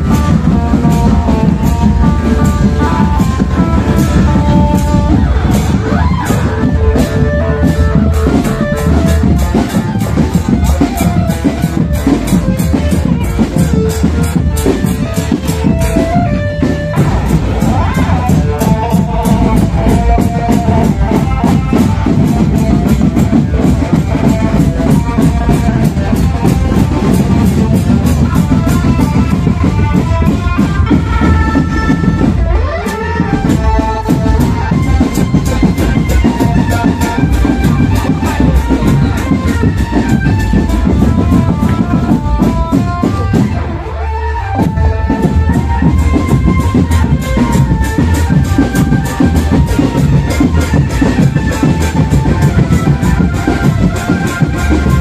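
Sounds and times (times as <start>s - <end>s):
marching drum band playing: 0.0s - 55.0s.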